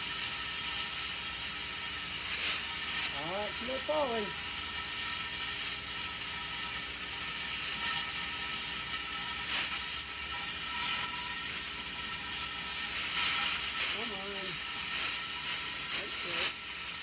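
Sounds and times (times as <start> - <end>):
plasma cutter hissing: 0.0 - 17.0.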